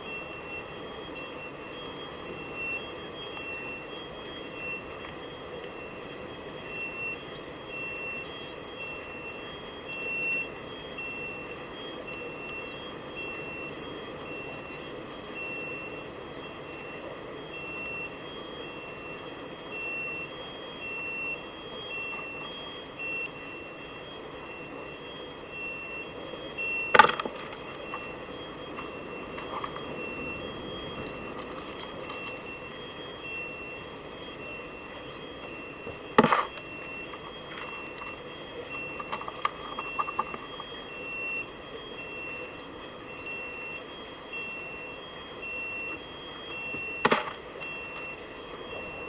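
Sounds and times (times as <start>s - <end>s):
high beep-like tone: 0.0s - 49.0s.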